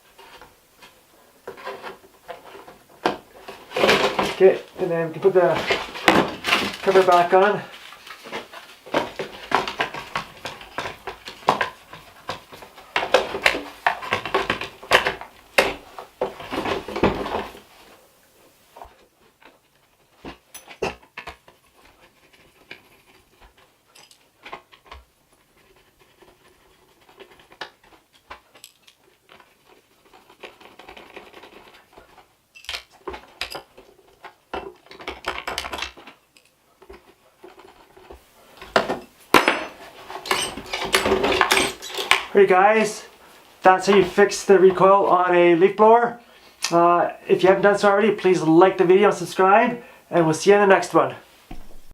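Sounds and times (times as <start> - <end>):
plastic parts clicking and scraping: 0.1 - 17.8, 18.8 - 45.4.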